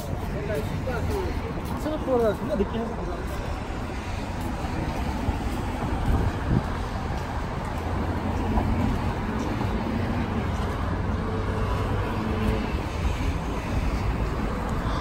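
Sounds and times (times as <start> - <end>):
city traffic rumble: 0.0 - 15.0
passing vehicle engine hum: 0.0 - 15.0.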